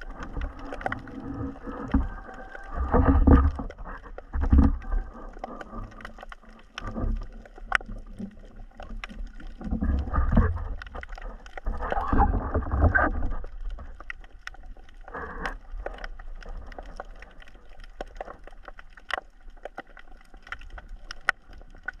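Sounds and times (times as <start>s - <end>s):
muffled underwater sloshing: 0.0s - 22.0s.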